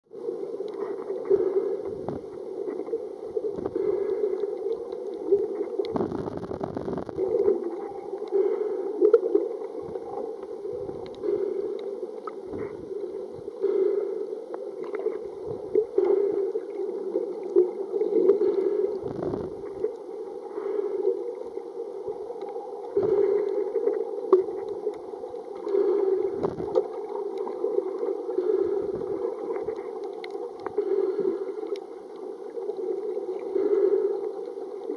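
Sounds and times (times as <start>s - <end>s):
water sloshing and gurgling: 0.1s - 34.9s.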